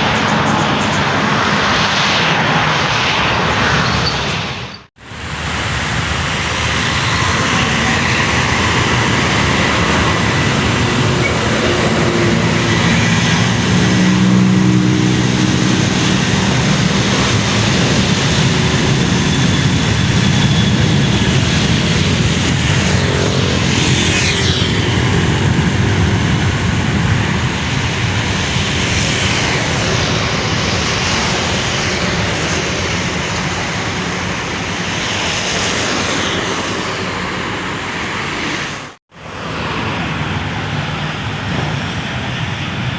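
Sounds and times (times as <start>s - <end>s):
airliner engines running: 0.0s - 42.9s
falling engine whine: 0.0s - 42.9s.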